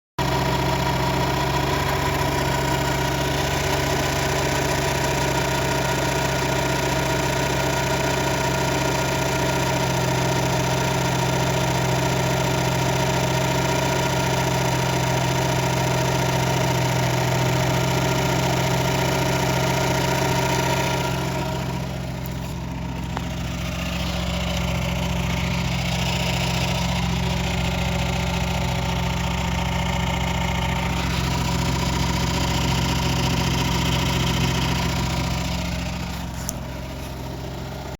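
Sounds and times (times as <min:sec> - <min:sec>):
car engine idling: 0:00.2 - 0:37.9.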